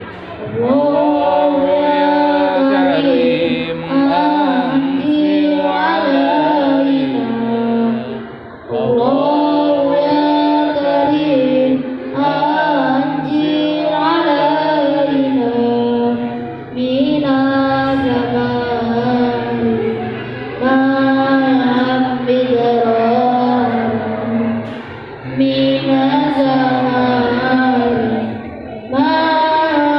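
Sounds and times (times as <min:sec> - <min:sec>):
voices chanting a prayer: 0:00.0 - 0:29.9.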